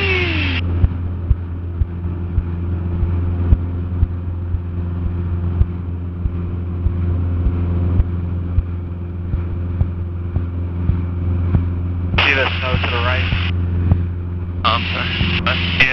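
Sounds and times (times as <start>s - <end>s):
plane engine droning: 0.0s - 15.9s.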